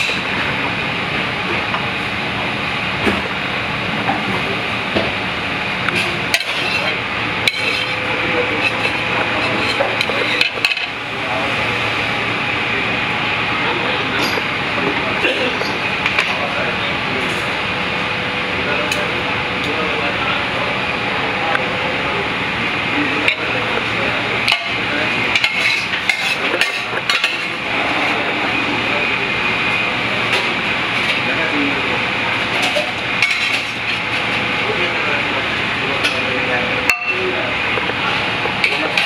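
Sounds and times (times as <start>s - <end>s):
loud steady rushing noise: 0.0s - 39.0s
steady background noise: 0.0s - 39.0s.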